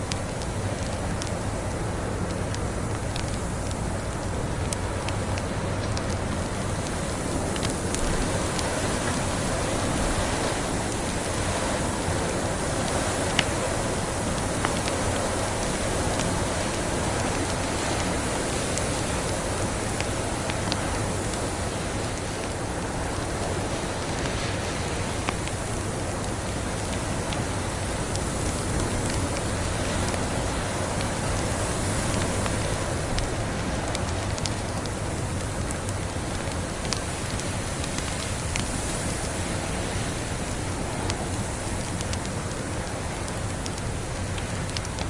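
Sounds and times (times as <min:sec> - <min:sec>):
wind rushing in a snowstorm: 0:00.0 - 0:45.0
wood fire crackling: 0:00.0 - 0:45.0.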